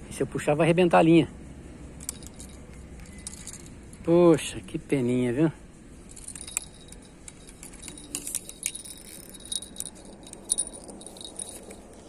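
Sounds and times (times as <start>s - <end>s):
fishing tackle clinking: 1.8s - 12.0s.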